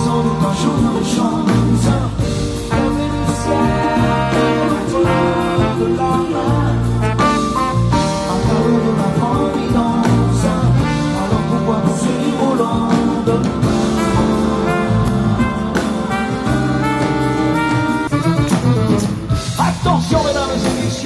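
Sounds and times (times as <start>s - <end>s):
man singing into a microphone: 0.0s - 16.5s, 19.6s - 21.0s
live band playing: 0.0s - 21.0s.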